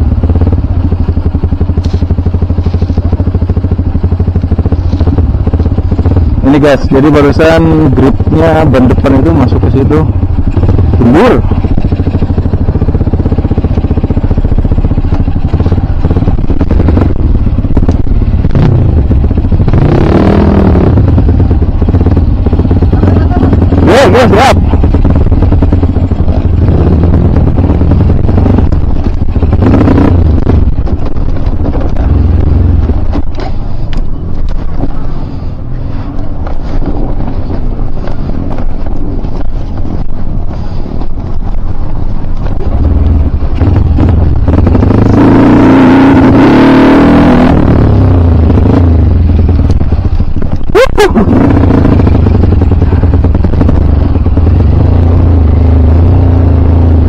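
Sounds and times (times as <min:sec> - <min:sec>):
dirt bike engine revving: 0:00.0 - 0:33.7, 0:42.6 - 0:57.0.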